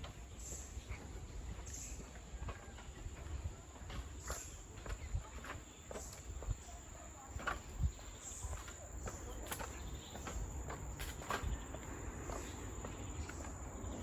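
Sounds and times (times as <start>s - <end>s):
footsteps on path: 0.0s - 14.0s
insects trilling: 0.0s - 14.0s.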